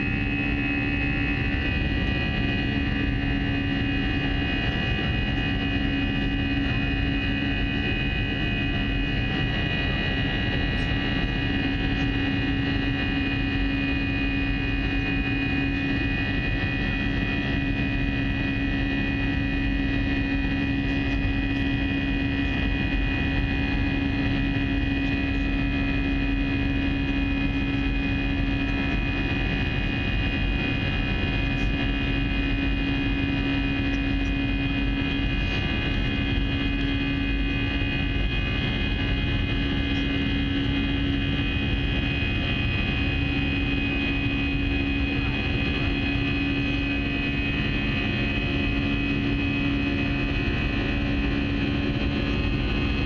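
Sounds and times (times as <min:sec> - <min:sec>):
airliner cabin engine drone: 0:00.0 - 0:53.0.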